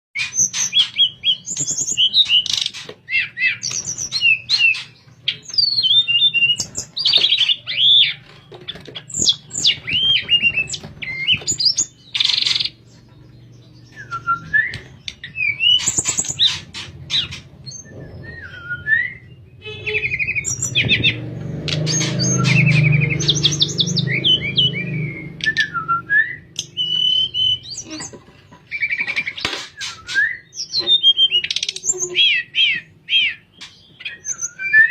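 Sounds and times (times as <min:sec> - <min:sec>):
songbird whistling song: 0:00.2 - 0:34.9.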